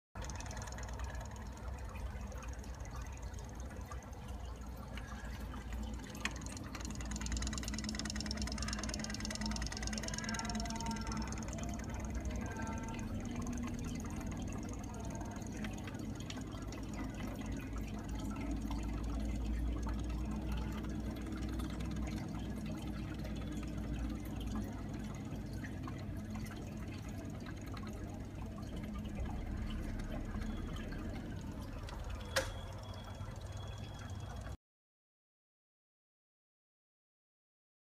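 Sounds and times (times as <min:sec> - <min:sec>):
water trickling from filter: 0:00.2 - 0:34.6.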